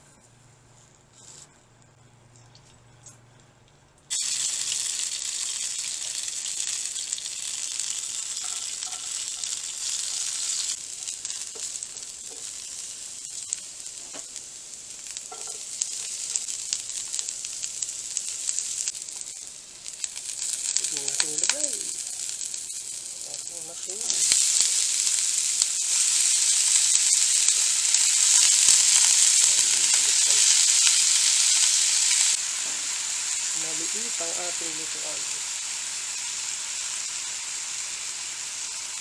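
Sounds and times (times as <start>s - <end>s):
food sizzling in a pan: 4.1s - 39.0s.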